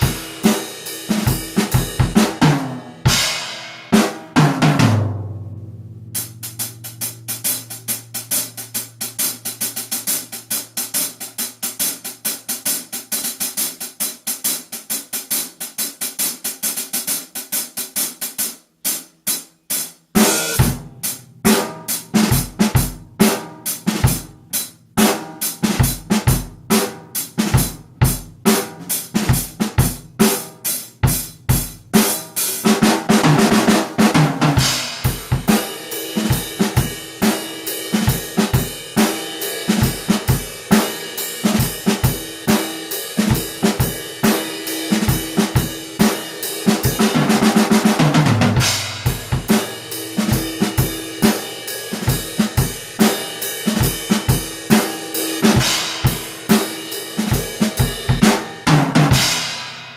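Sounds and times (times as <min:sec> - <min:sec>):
drum kit beat: 0:00.0 - 0:59.9.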